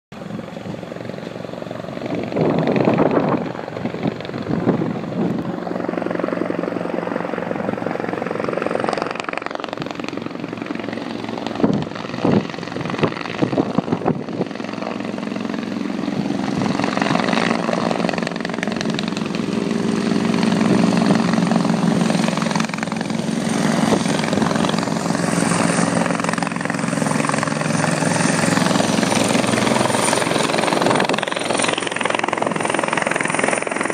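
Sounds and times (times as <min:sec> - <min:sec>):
helicopter rotor and turbine: 0:00.1 - 0:33.9.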